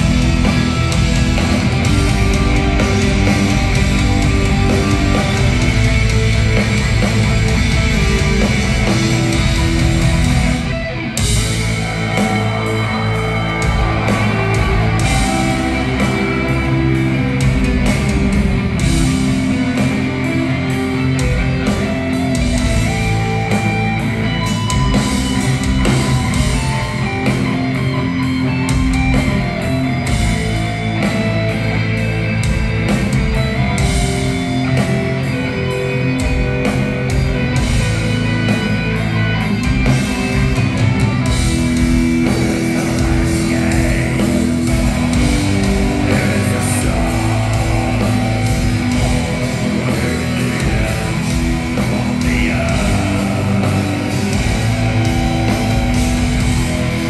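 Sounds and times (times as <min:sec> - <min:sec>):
bass and drums: 0:00.0 - 0:57.0
distorted electric guitars: 0:00.0 - 0:57.0.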